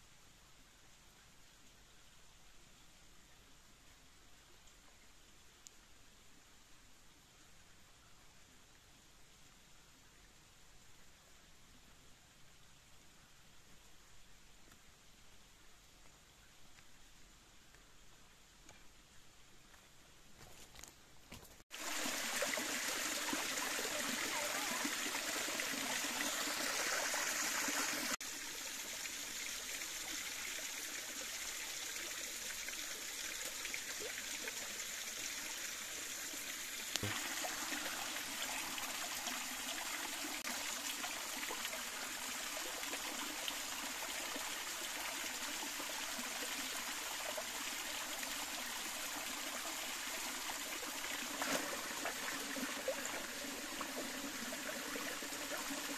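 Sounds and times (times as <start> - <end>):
stream and waterfall over rocks: 0.0 - 55.9.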